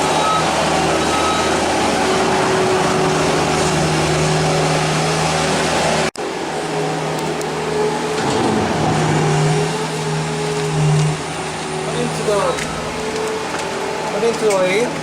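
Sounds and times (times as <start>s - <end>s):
heavy machinery droning: 0.0s - 14.9s.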